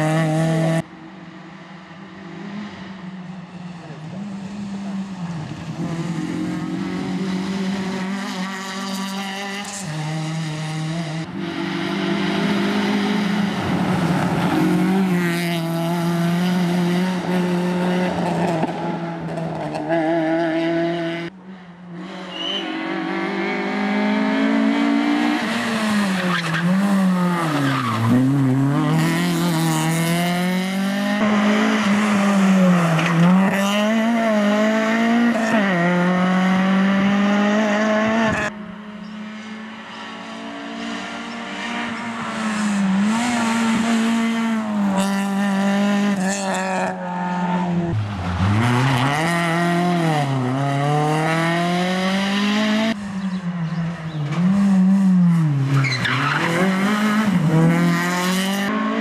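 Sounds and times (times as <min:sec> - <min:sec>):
car engine revving: 0:03.8 - 0:21.3, 0:21.9 - 0:59.0.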